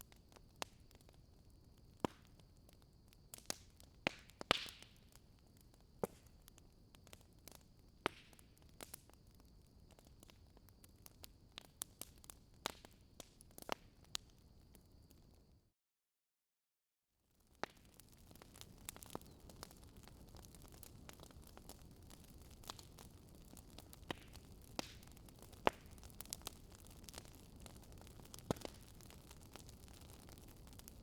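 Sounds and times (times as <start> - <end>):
wood fire crackling: 0.0 - 15.3, 17.4 - 31.0.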